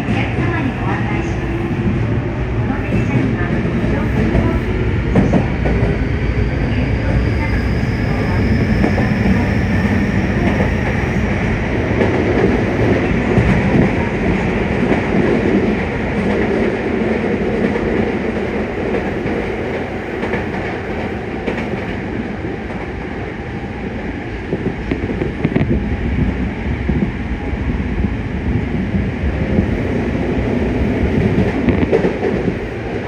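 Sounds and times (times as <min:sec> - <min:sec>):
train wheel-on-rail rumble: 0:00.0 - 0:33.0.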